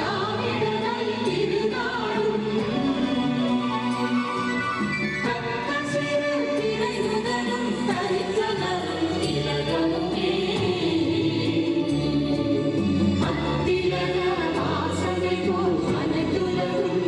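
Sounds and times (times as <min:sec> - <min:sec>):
group singing with instruments: 0:00.0 - 0:17.0.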